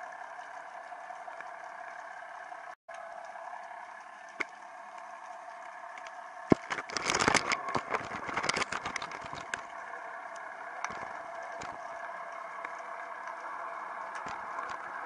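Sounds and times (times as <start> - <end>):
steady underwater hum: 0.0 - 15.0.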